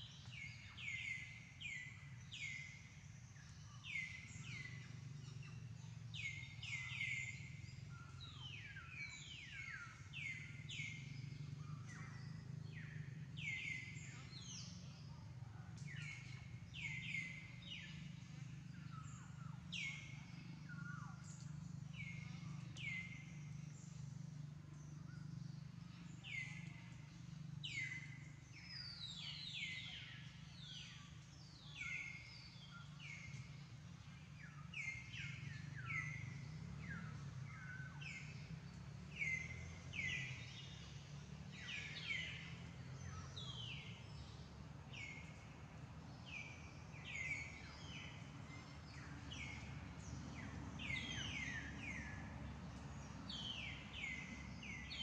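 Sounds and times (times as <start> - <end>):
birds chirping: 0.0 - 55.0
low background hum: 0.0 - 55.0.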